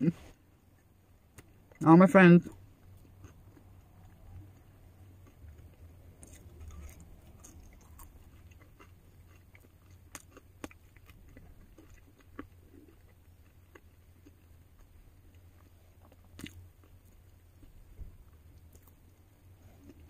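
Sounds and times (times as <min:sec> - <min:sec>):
faint low hum: 0:00.0 - 0:20.0
person chewing food: 0:02.4 - 0:20.0.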